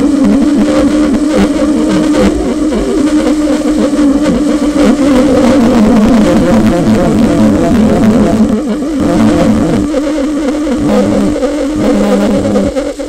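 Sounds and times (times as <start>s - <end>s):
wavering buzzing drone: 0.0s - 13.0s.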